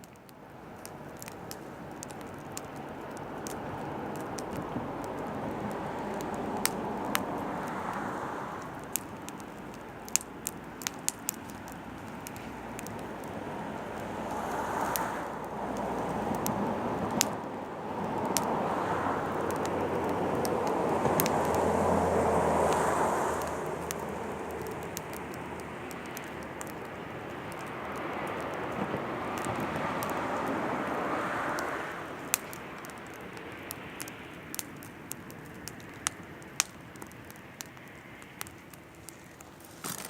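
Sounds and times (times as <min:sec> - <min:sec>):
fire rushing: 0:00.0 - 0:40.0
firewood crackling and popping: 0:00.0 - 0:40.0.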